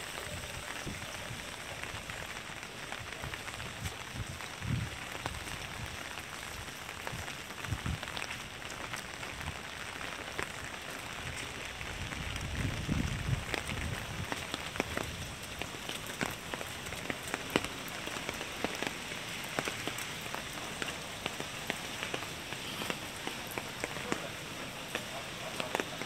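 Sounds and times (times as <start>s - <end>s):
rain falling on wet street: 0.0s - 26.0s.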